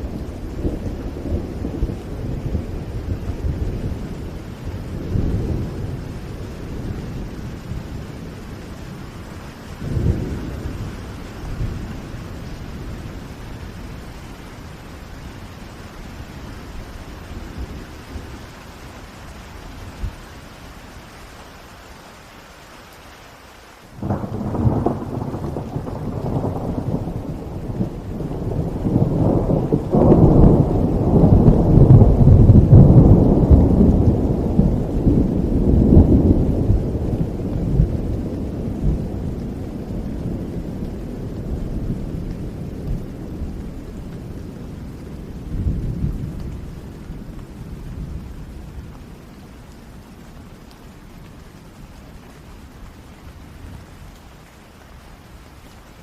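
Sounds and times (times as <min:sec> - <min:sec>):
thunder rumbling: 0:00.0 - 0:21.0, 0:24.0 - 0:54.2
steady rain: 0:00.0 - 0:56.0.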